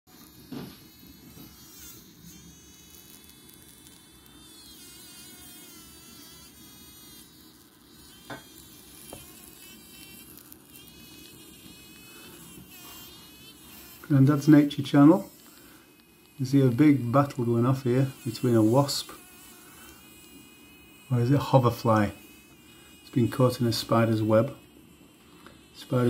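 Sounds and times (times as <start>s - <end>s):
fly buzzing wings: 0.1s - 26.0s.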